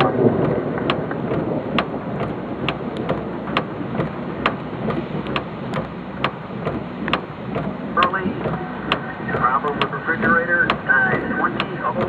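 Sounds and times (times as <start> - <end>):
heavy rain: 0.0 - 12.0
sharp ticking: 0.0 - 12.0.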